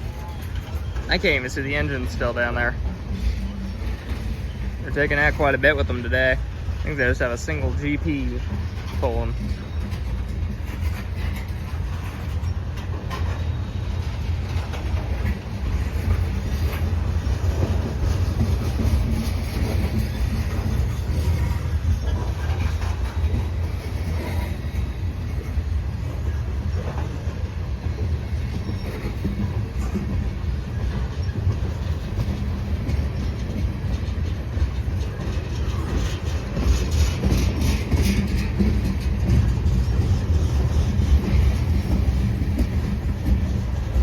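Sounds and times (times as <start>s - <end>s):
freight cars rumbling on rails: 0.0s - 44.0s
wheels clicking over rail joints: 0.0s - 44.0s.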